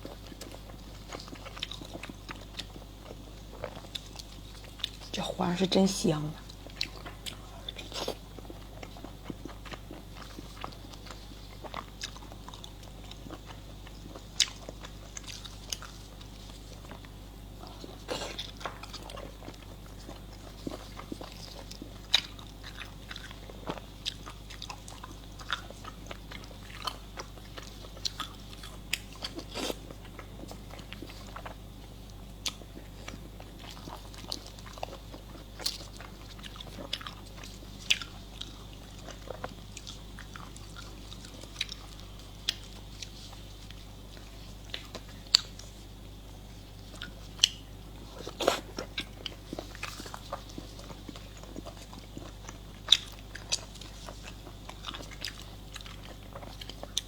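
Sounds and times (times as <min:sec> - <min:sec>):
person chewing crunchy food: 0:00.0 - 0:05.2, 0:06.4 - 0:57.0.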